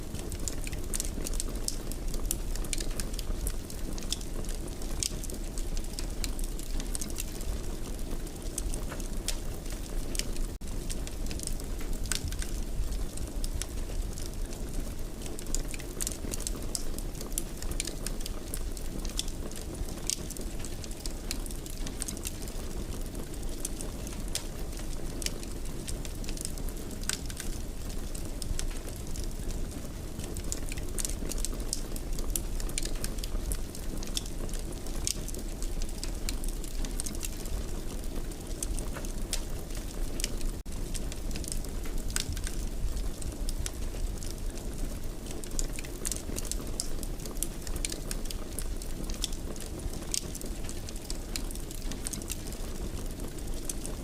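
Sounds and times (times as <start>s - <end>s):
fire crackling and popping: 0.0s - 54.0s
fire flames rumbling: 0.0s - 54.0s.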